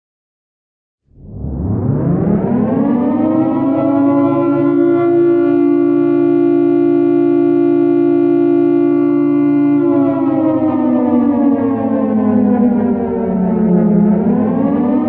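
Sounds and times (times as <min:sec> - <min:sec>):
air-raid siren: 0:01.1 - 0:15.0.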